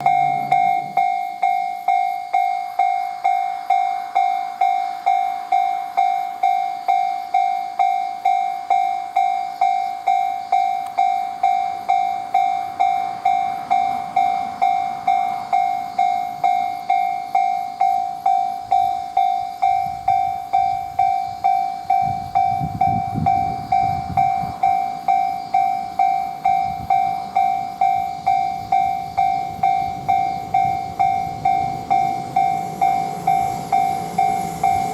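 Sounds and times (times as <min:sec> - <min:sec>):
electronic level-crossing bell: 0:00.0 - 0:34.9
train rumble: 0:00.0 - 0:34.9.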